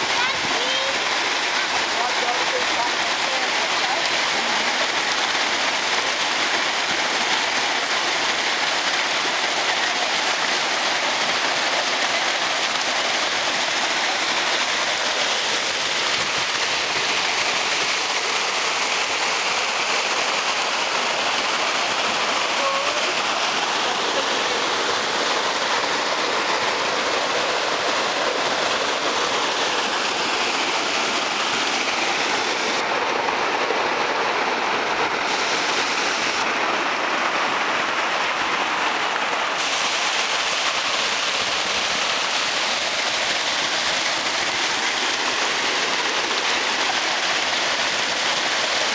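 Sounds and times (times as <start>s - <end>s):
river water rushing over rapids: 0.0s - 48.9s.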